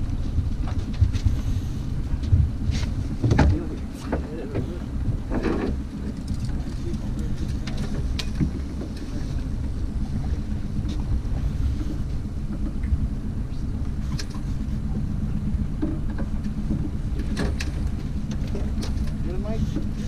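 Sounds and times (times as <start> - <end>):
outboard motor running: 0.0 - 20.0
water noise: 0.0 - 20.0
wind: 0.0 - 20.0.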